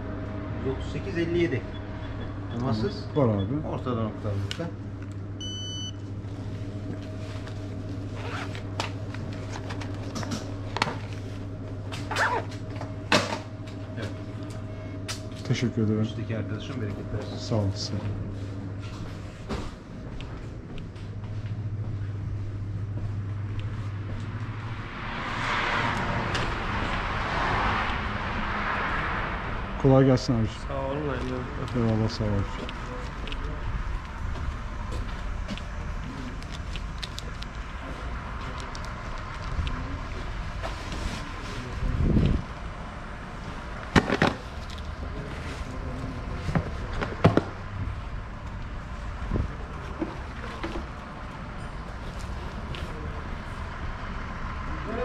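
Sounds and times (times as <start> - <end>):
low traffic rumble: 0.0 - 55.0
steady low hum: 0.0 - 55.0.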